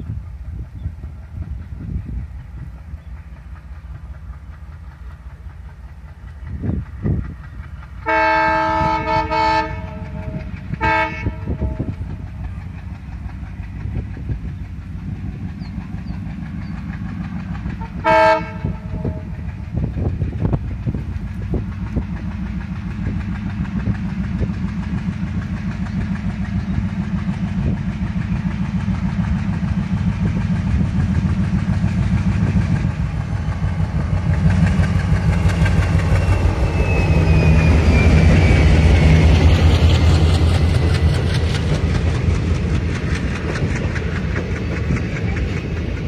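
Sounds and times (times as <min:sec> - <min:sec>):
diesel locomotive chugging: 0:00.0 - 0:46.0
train wheels clattering on rail joints: 0:00.0 - 0:46.0.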